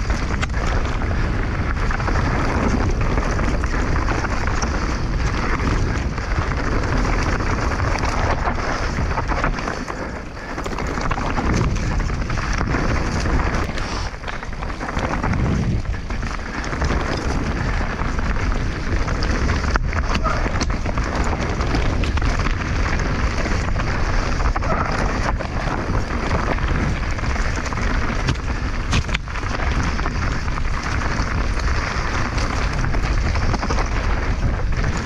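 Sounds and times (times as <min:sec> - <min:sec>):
bike knocks and rattles: 0:00.0 - 0:35.0
bike tyre noise on dirt: 0:00.0 - 0:35.0
wind rushing over microphone: 0:00.0 - 0:35.0.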